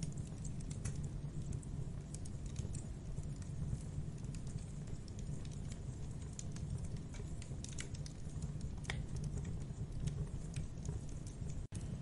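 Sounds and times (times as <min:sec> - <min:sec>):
campfire crackling and popping: 0:00.0 - 0:12.0
low fire rumble: 0:00.0 - 0:12.0.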